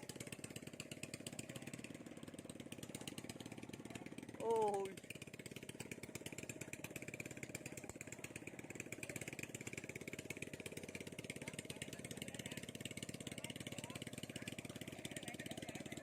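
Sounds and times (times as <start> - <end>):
small engine chugging: 0.0 - 16.0.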